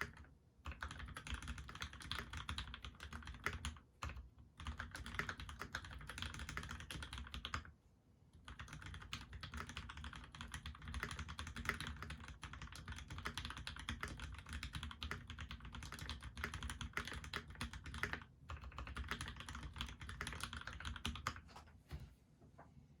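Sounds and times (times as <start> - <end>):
mechanical keyboard typing: 0.0 - 7.7, 8.4 - 21.5.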